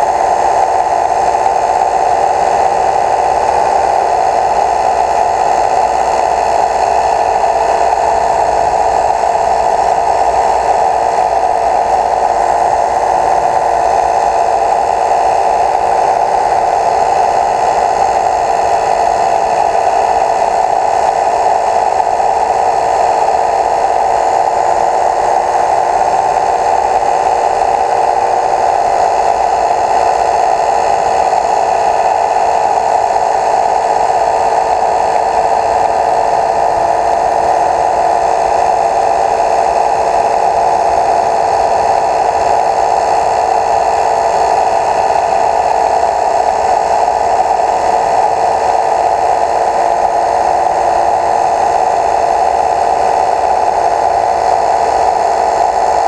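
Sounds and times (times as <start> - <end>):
small motor whirring: 0.0 - 56.0.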